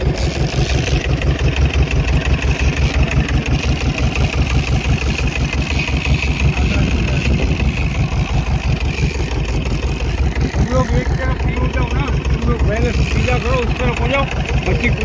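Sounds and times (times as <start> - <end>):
boat engine pulsing: 0.0 - 15.0
high engine whine: 0.0 - 15.0.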